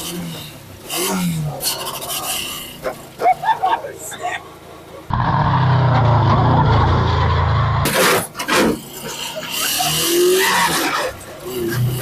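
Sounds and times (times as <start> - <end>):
car engine running hard: 0.0 - 12.0
tires squealing: 0.0 - 12.0.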